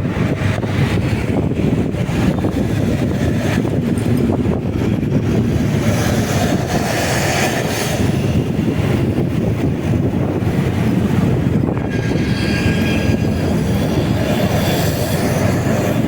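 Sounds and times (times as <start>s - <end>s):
motorcycle engine and road noise: 0.0s - 16.0s
wind rush on microphone: 0.0s - 16.0s.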